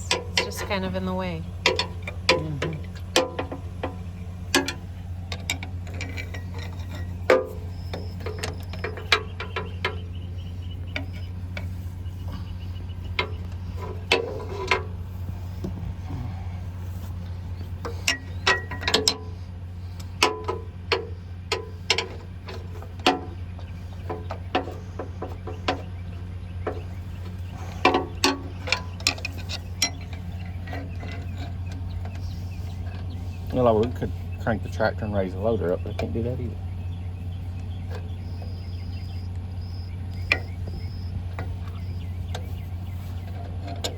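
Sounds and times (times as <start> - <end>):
hand tools clinking on metal: 0.0 - 36.7
steady low hum: 0.0 - 43.9.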